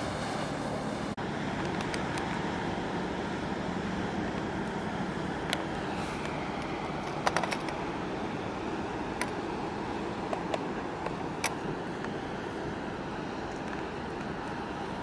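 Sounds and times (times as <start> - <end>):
outdoor background rumble and hiss: 0.0 - 15.0.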